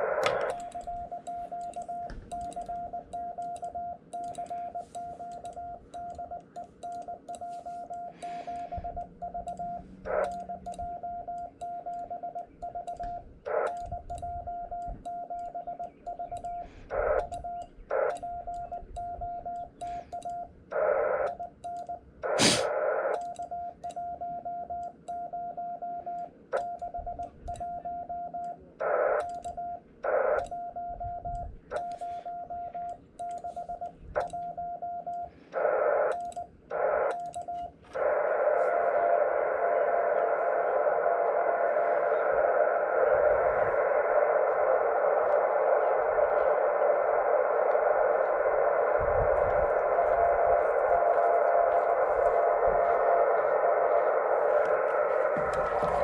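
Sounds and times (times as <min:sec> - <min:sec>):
radio noise bursts: 0:00.0 - 0:21.5, 0:22.2 - 0:23.8, 0:26.0 - 0:56.0
morse code tone: 0:00.0 - 0:40.7, 0:41.3 - 0:56.0.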